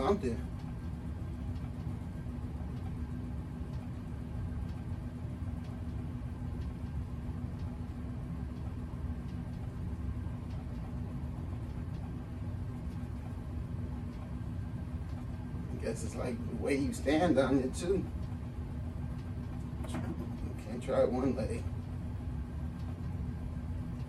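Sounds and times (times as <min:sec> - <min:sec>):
vibration plate machine humming: 0:00.0 - 0:24.0.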